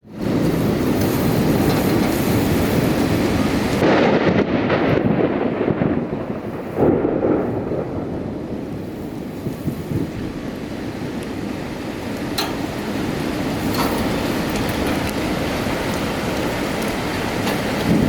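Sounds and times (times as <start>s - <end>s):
thunder rumbling: 0.1s - 18.0s.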